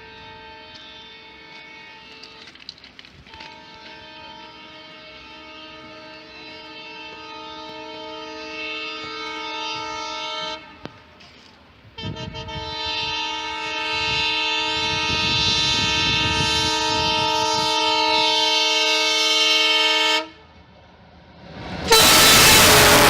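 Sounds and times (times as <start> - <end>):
train air horn: 0.0 - 2.5, 3.3 - 11.2, 12.0 - 20.5, 21.8 - 23.0
train rumbling: 0.0 - 23.0.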